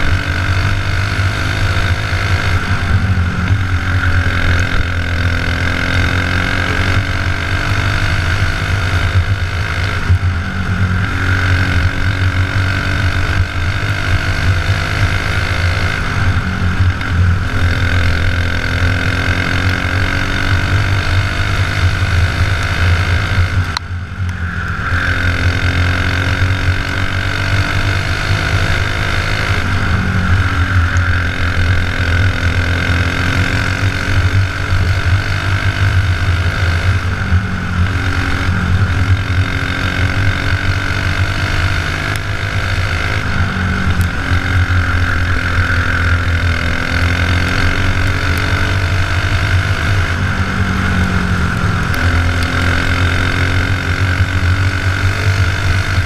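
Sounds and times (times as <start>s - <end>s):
racing kart engine running hard: 0.0s - 56.0s.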